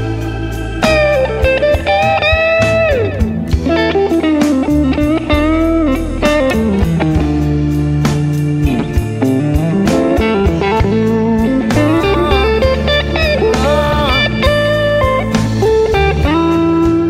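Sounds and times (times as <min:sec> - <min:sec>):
bass and drums: 0:00.0 - 0:17.0
electric guitar solo: 0:00.8 - 0:07.7, 0:08.6 - 0:17.0.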